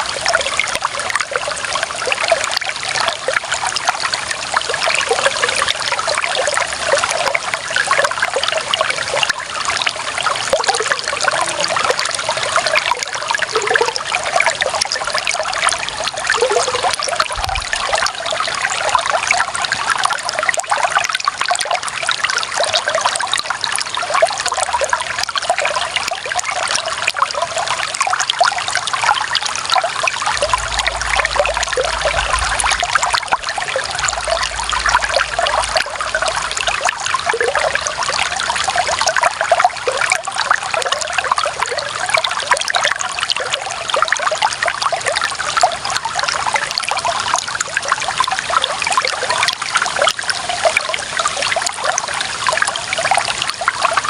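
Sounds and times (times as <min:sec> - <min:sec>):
water trickling over stones: 0:00.0 - 0:54.0.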